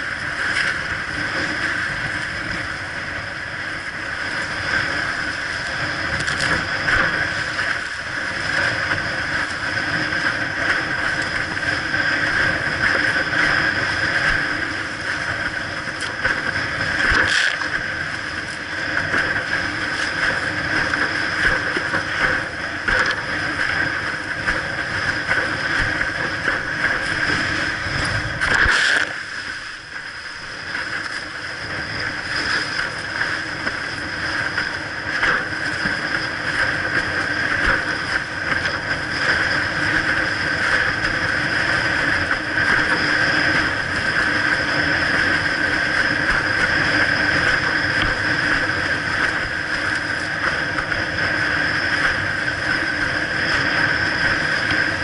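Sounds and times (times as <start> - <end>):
board hull slapping waves: 0.0 - 55.0
deep rumble: 0.0 - 55.0
rush of wind and water: 0.0 - 55.0.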